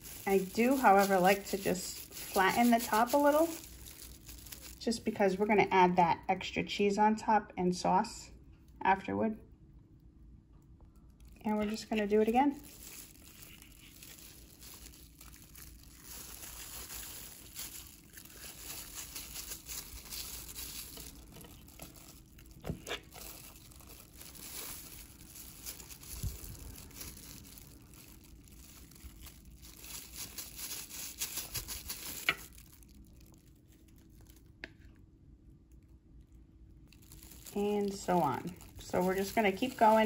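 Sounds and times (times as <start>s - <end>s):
plastic glove crinkling: 0.0s - 5.8s, 11.1s - 35.0s, 36.7s - 40.0s.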